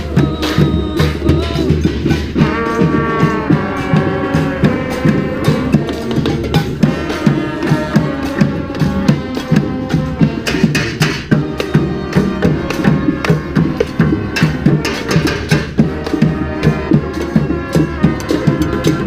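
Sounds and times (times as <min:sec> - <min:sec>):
brass band playing: 0:00.0 - 0:19.0
drum beat: 0:00.0 - 0:19.0.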